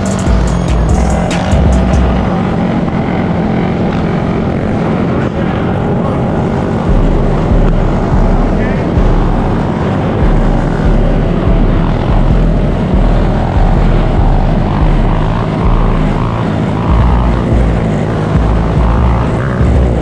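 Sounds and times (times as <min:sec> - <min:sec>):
dirt bike and atv engines revving: 0:00.0 - 0:20.0.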